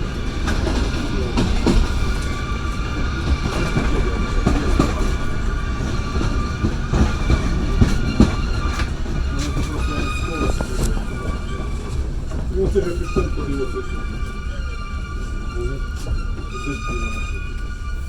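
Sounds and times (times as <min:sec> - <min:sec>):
wheels clacking over rail joints: 0:00.0 - 0:18.0
wheels rumbling on rails: 0:00.0 - 0:18.0.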